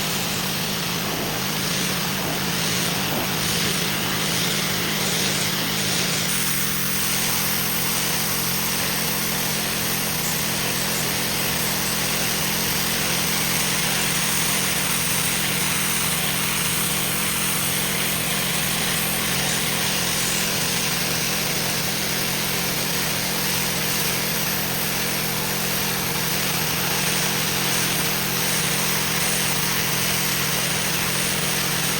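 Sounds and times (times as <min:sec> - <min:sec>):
pressure washer motor hum: 0:00.0 - 0:31.9
water spray hissing: 0:00.0 - 0:31.9.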